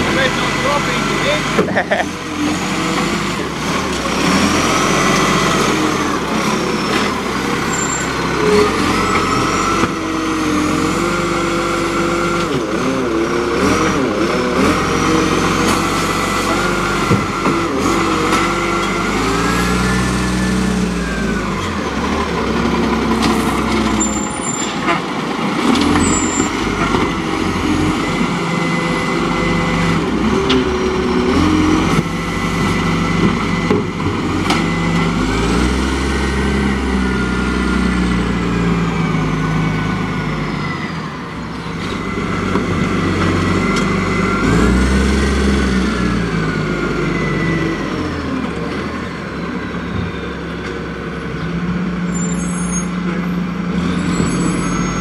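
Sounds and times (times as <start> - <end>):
garbage truck diesel engines running: 0.0 - 55.0
truck engine revving: 0.0 - 55.0.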